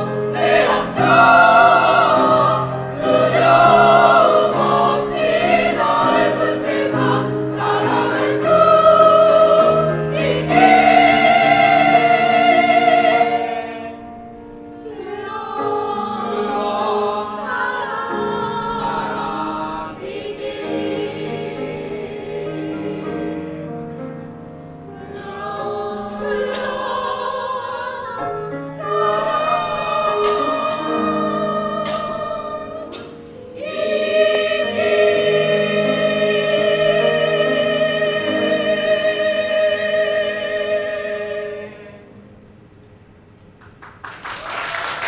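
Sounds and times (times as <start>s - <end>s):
choir singing in harmony: 0.0s - 42.8s.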